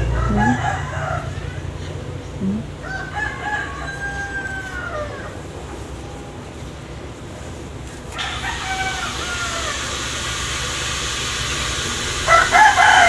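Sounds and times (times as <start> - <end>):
roosters crowing: 0.0 - 13.0
steady hiss: 0.0 - 13.0.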